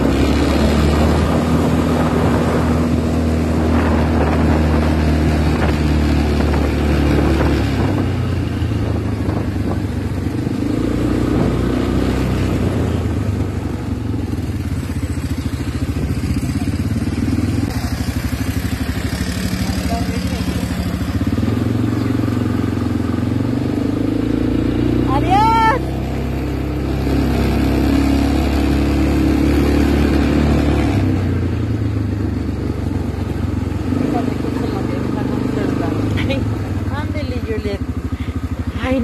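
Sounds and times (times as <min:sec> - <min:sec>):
small motorcycle engine running: 0:00.0 - 0:39.0.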